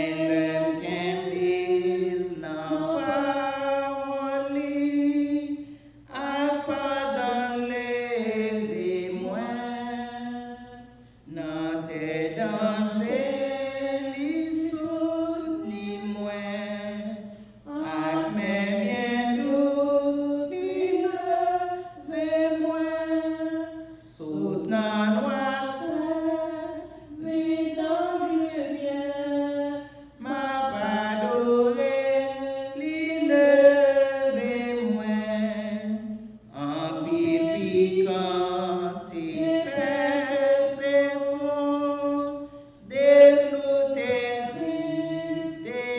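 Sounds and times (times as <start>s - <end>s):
woman singing a hymn: 0.0s - 45.9s.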